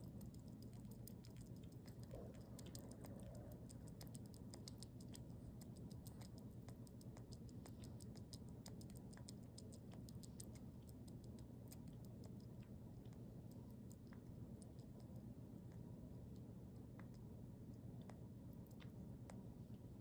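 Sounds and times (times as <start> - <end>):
sugar glider eating clicks: 0.0 - 20.0.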